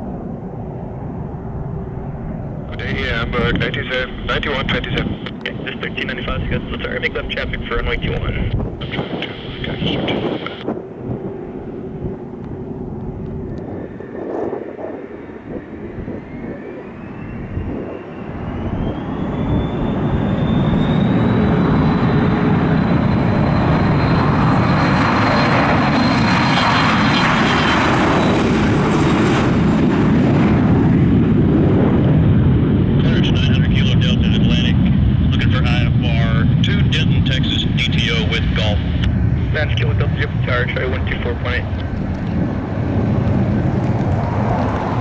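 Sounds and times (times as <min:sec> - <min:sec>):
jet engines spooling up: 0:00.3 - 0:45.0.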